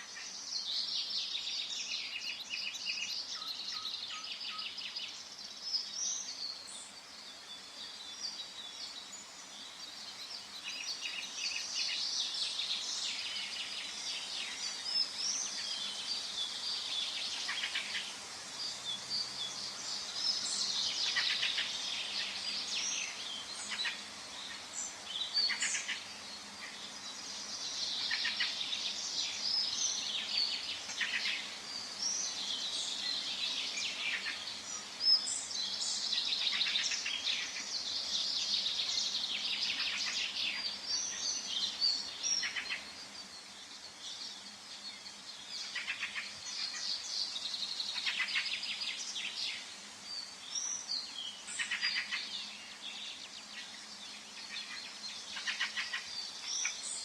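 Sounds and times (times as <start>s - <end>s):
faint background hiss: 0.0s - 57.0s
songbirds chirping and trilling: 0.0s - 57.0s.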